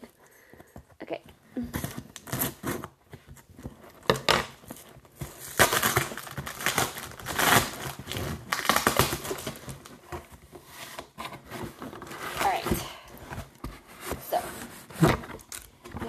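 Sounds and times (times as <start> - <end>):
contents crinkling and rustling: 0.0 - 16.0.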